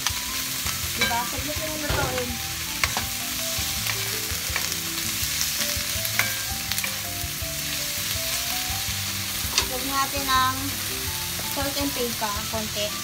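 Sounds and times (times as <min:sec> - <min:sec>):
vegetables sizzling in a wok: 0:00.0 - 0:13.0.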